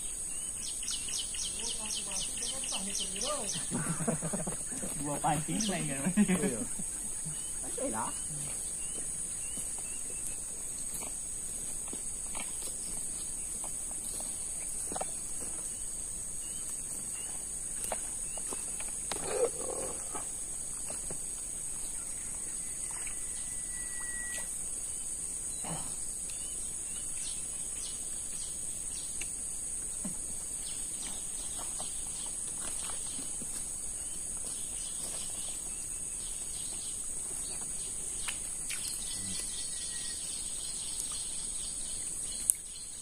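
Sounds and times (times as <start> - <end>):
insects droning: 0.0 - 43.0.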